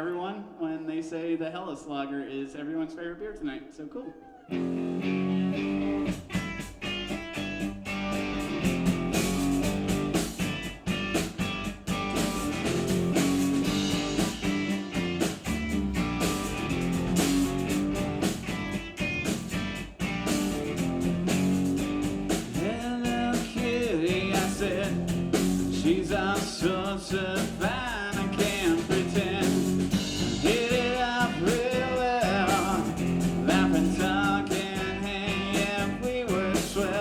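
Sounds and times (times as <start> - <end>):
guitar chords: 4.5 - 37.0
drum beat: 6.0 - 37.0.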